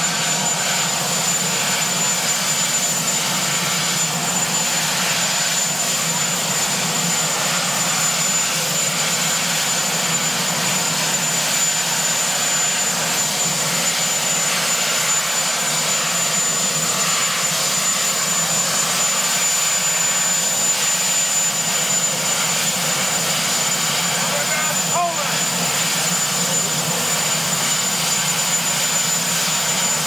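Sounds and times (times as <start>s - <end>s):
helicopter engine rushing: 0.0s - 30.0s.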